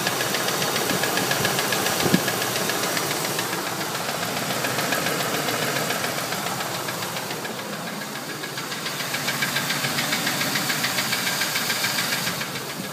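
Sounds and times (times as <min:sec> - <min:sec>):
car engine ticking: 0:00.0 - 0:12.9.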